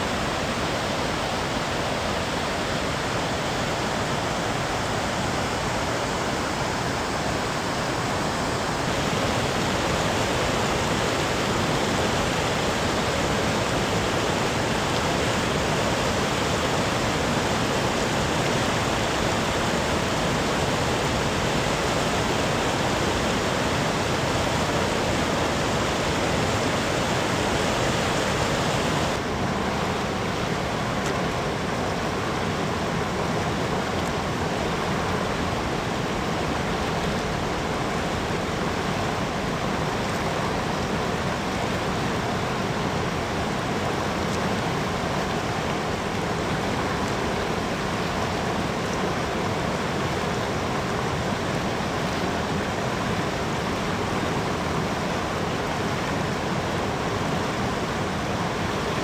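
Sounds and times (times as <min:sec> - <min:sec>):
river rapids rushing over rocks: 0:00.0 - 0:59.0.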